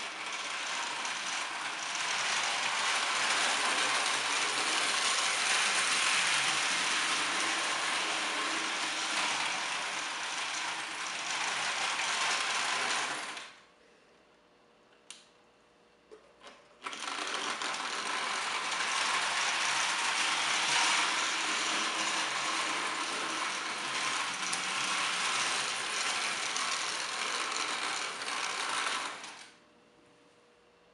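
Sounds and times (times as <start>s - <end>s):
toy train motor whirring: 0.0s - 13.6s, 16.8s - 29.6s.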